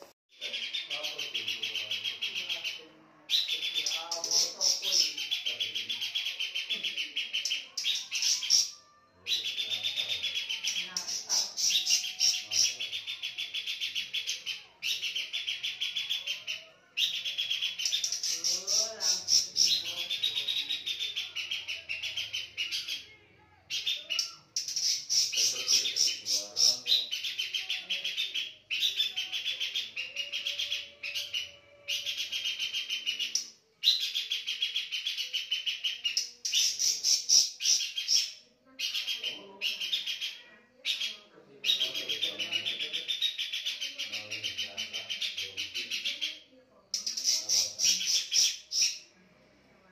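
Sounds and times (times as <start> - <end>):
babbler bird singing trills: 0.4 - 49.1.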